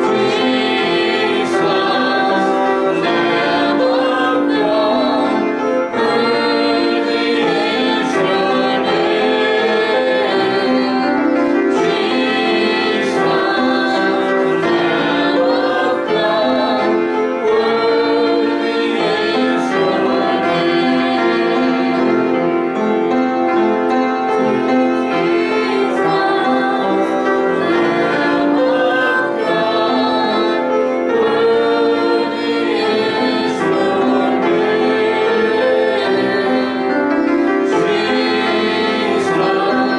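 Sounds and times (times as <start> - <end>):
choir singing worship song: 0.0 - 39.9
piano accompaniment: 0.0 - 39.9.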